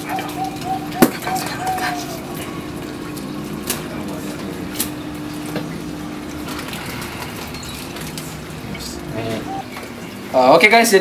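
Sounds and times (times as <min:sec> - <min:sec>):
low pump hum: 0:00.0 - 0:11.0
water splashing in aquarium: 0:00.0 - 0:11.0.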